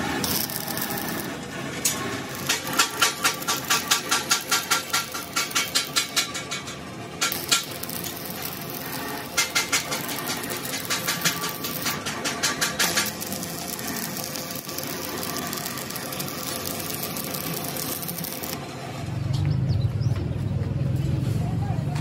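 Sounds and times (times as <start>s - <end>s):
machinery rapid clatter: 0.0s - 18.6s
steady machine hum: 0.0s - 19.2s.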